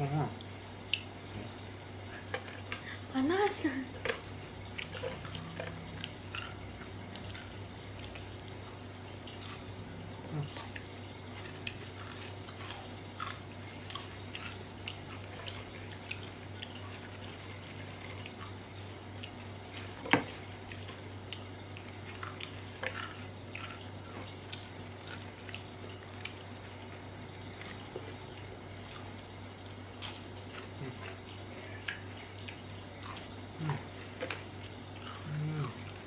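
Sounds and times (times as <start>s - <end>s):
steady low hum: 0.0s - 36.0s
chewing crunchy chips: 3.9s - 36.0s.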